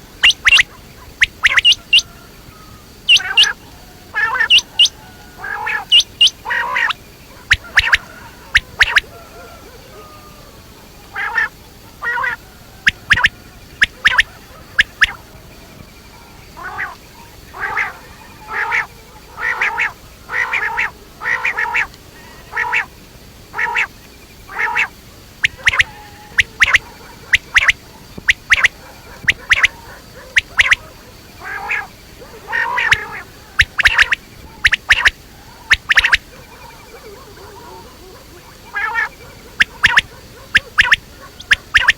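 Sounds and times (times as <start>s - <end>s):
quail calling: 0.0s - 41.9s.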